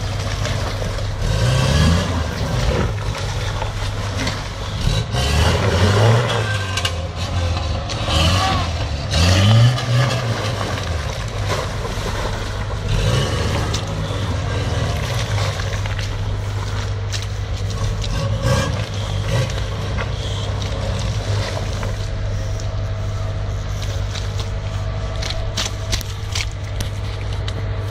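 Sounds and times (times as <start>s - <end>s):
truck engine revving: 0.0s - 27.9s
tyres churning through mud: 0.0s - 27.9s.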